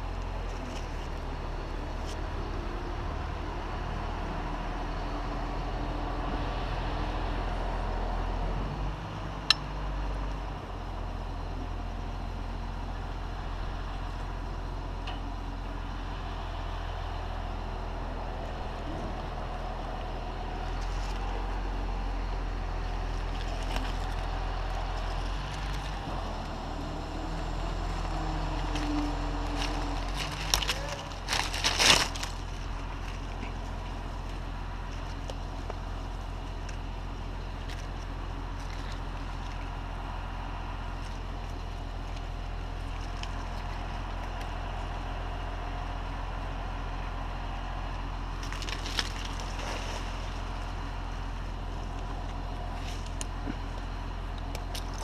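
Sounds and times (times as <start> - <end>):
large engine running: 0.0 - 55.0.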